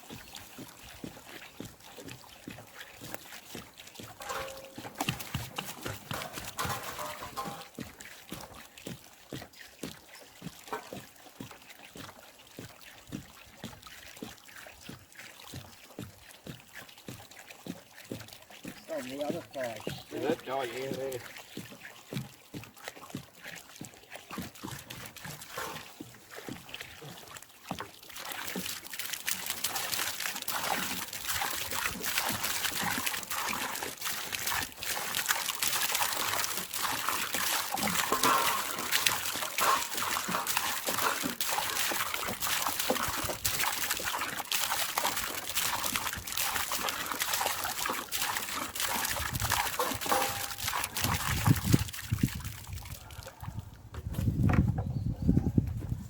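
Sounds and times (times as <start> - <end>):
water trickling onto fire: 0.0 - 53.5.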